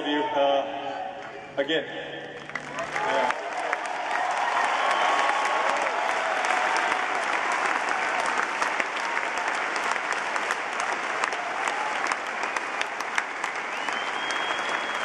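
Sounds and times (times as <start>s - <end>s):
stadium crowd applauding: 2.3s - 15.0s.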